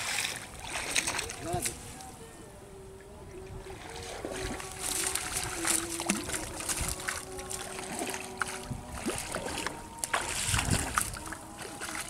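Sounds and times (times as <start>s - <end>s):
water trickling and splashing: 0.0s - 2.3s, 3.2s - 12.0s.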